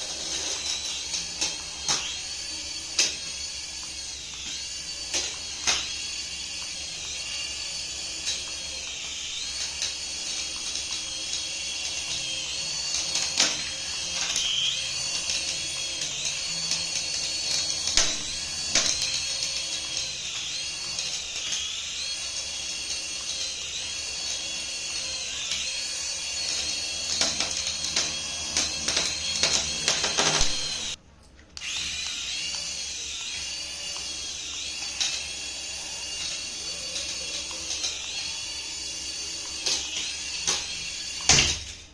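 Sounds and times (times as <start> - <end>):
small electric motor whine: 0.0 - 31.0, 31.6 - 41.9.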